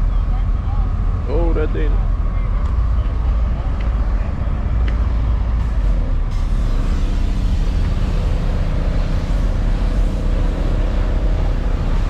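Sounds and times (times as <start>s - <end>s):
faint engine tones: 0.0s - 12.0s
vehicle engine rumbling: 0.0s - 12.0s.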